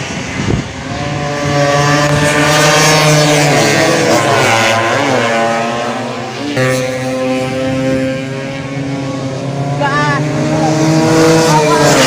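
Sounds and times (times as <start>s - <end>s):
two-stroke scooter engine revving: 0.9s - 12.0s.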